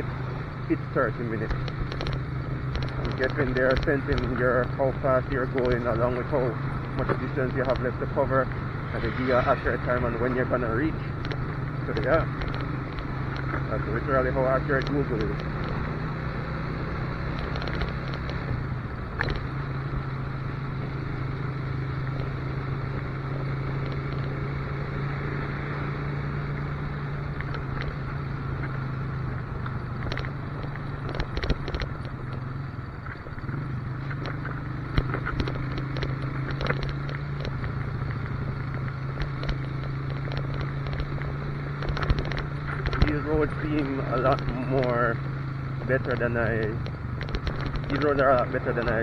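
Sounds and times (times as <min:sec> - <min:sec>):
motorcycle engine cruising: 0:00.0 - 0:49.0
road noise: 0:00.0 - 0:49.0
sharp clicks and knocks: 0:00.8 - 0:16.0, 0:17.0 - 0:19.6, 0:27.2 - 0:49.0.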